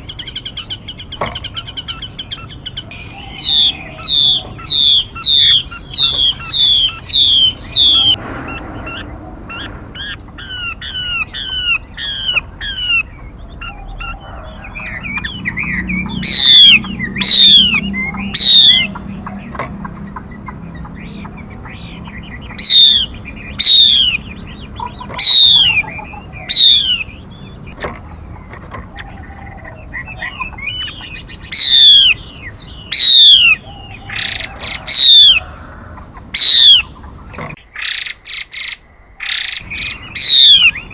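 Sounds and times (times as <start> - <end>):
bird whistled calls: 0.0 - 27.8, 28.9 - 37.0, 37.8 - 40.9.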